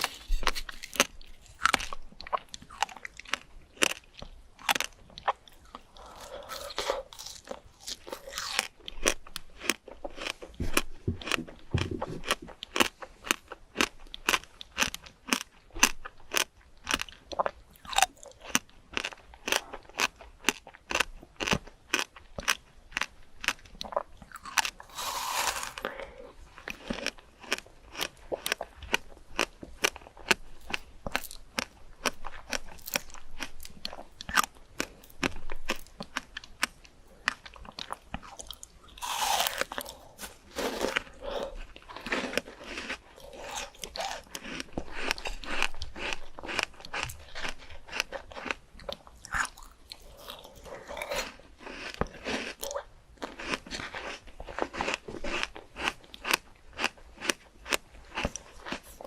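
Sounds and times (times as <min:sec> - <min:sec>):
crunching crisp fruit: 0:00.0 - 0:59.0.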